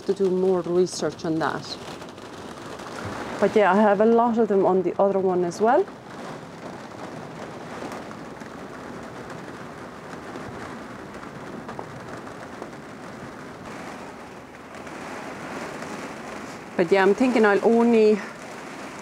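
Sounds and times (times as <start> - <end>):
rain and wind on a roof: 0.0 - 19.0.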